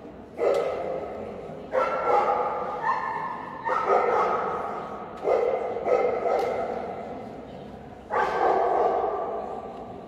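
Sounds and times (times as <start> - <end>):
dog barking in echoing hall: 0.3 - 7.3, 8.0 - 9.9.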